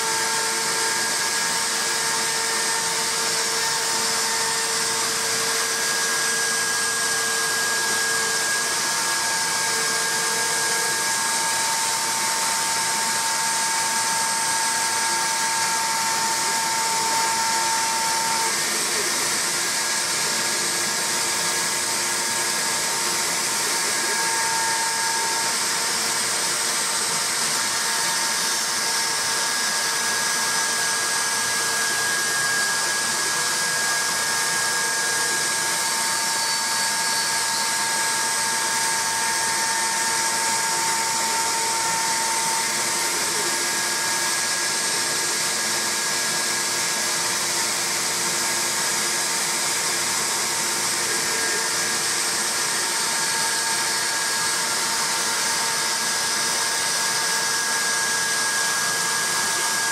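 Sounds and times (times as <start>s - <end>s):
bit cutting wood: 0.0s - 59.9s
router spindle whining: 0.0s - 59.9s.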